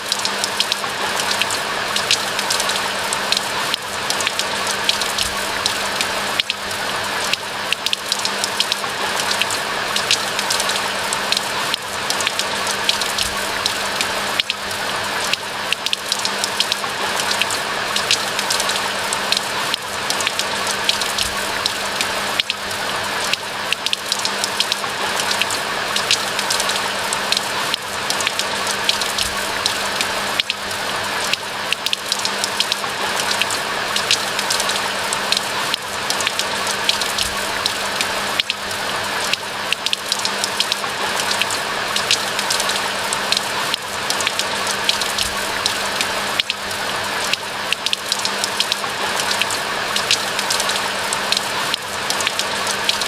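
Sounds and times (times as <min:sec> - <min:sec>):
raindrops ticking close by: 0:00.0 - 0:53.0.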